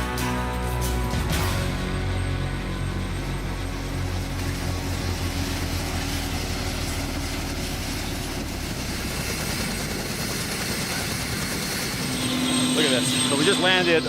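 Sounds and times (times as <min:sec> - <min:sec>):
helicopter engines and rotor: 0:00.0 - 0:14.0.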